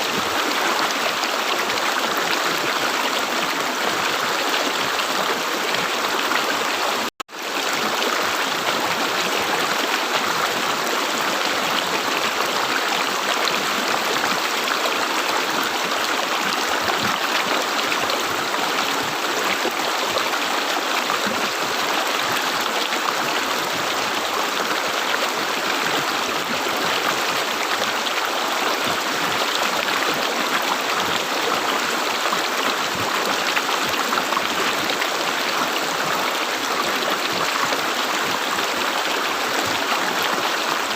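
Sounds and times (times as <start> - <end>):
river water gurgling: 0.0 - 40.9.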